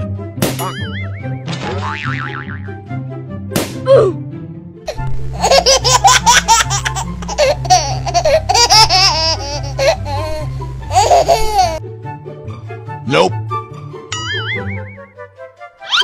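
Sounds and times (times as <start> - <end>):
background music with bass line: 0.0 - 15.6.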